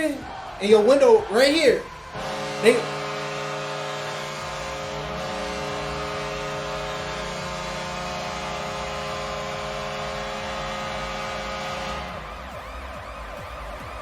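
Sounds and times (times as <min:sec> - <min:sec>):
arena goal horn blast: 0:00.0 - 0:12.6.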